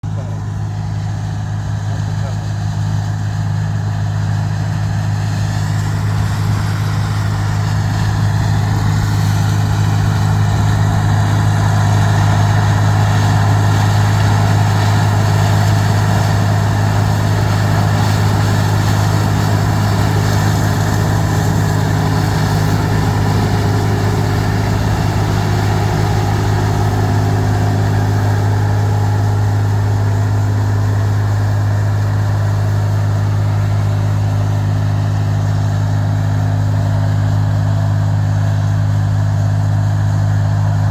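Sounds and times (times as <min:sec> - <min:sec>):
combine harvester engine drone: 0:00.0 - 0:40.9
machinery noise: 0:00.0 - 0:40.9.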